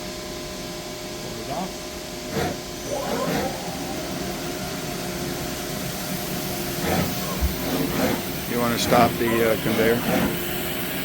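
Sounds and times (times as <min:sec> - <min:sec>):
lathe machine hum: 0:01.8 - 0:11.0.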